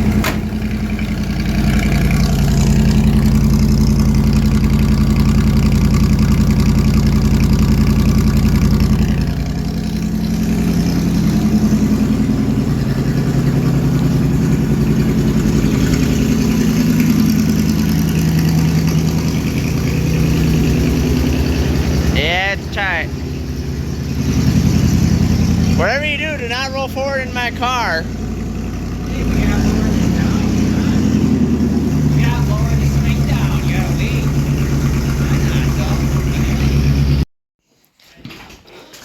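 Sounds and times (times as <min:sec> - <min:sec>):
engine fast idle: 0:00.0 - 0:26.4, 0:27.8 - 0:37.2.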